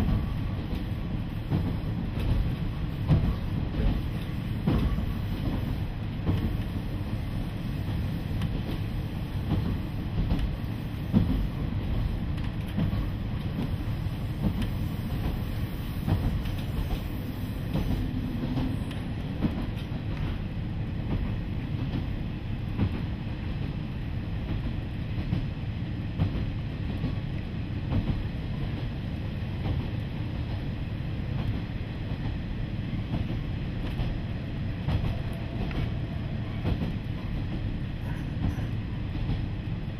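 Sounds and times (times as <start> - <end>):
track clacks and knocks: 0.0 - 7.0, 7.8 - 39.6
diesel engine and wheels rumbling: 0.0 - 39.9.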